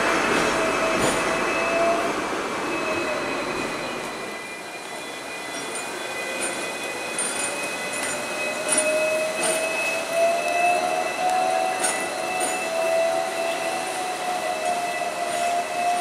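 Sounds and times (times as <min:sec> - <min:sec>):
electric tram whine: 0:00.0 - 0:16.0
tram running noise: 0:00.0 - 0:16.0.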